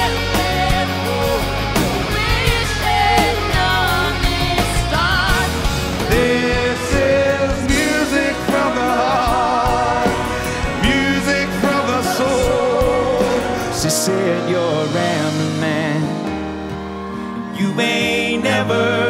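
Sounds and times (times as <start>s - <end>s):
choir and lead singer: 0.0s - 19.0s
live band playing: 0.0s - 19.0s.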